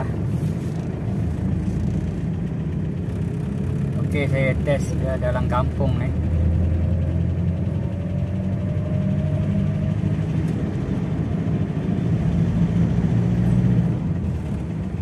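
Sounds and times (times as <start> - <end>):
pickup engine and road rumble: 0.0 - 15.0.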